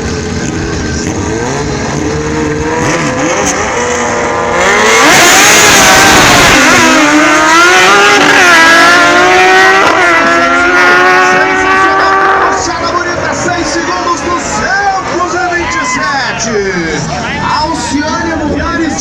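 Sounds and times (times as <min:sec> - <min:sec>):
motorcycle engines accelerating: 0:00.0 - 0:19.0.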